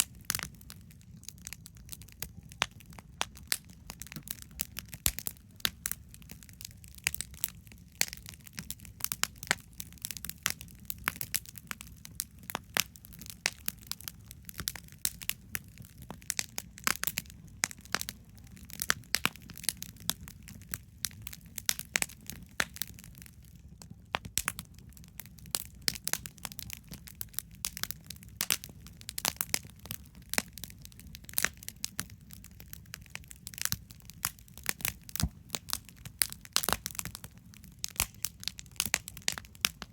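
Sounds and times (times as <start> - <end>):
campfire crackling and popping: 0.0 - 39.9
low steady fire rumble: 0.0 - 39.9.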